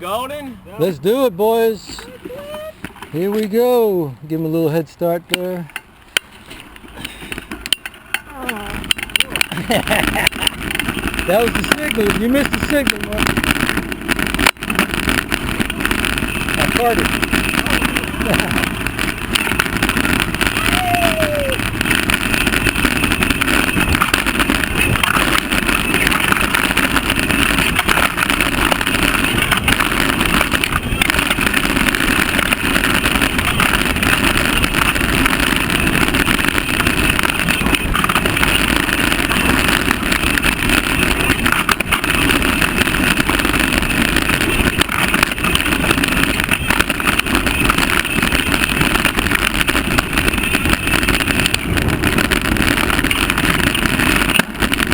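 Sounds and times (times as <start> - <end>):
bike tyre and chassis noise: 0.0 - 54.9
wind rushing on microphone: 8.6 - 54.9.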